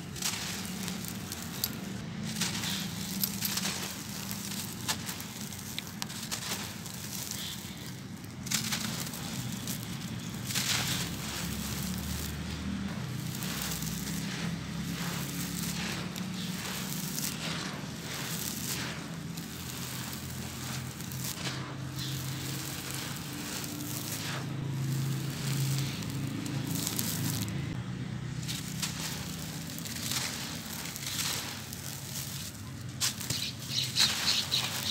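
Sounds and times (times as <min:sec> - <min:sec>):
gritty sand mix crackling through hands: 0:00.0 - 0:34.9.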